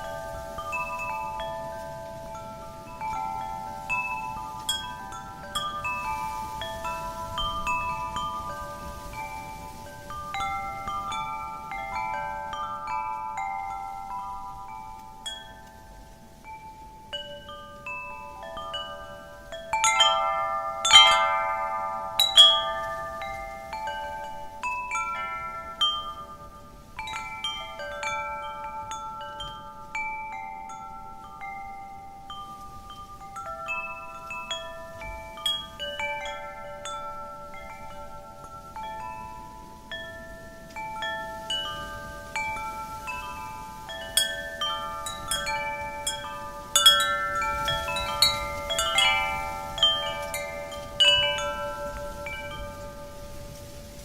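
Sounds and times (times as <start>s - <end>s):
faint wind noise: 0.0s - 54.0s
wind chimes ringing: 0.0s - 54.0s.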